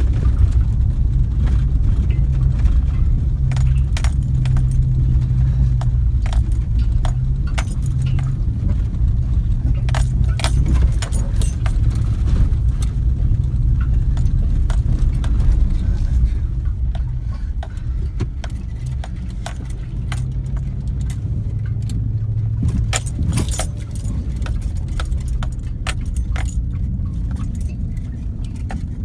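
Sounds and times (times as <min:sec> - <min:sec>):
engine running: 0:00.0 - 0:29.0
metallic clinks and jingles: 0:02.9 - 0:15.9, 0:18.4 - 0:29.0.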